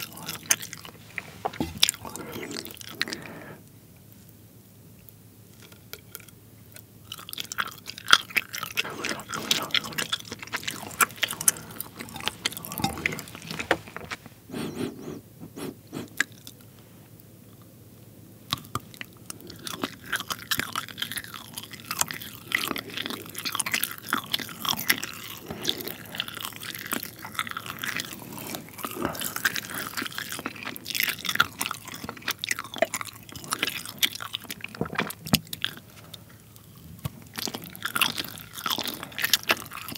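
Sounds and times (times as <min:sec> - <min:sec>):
chewing with mouth clicks: 0:00.0 - 0:03.6, 0:05.5 - 0:16.6, 0:18.5 - 0:39.9.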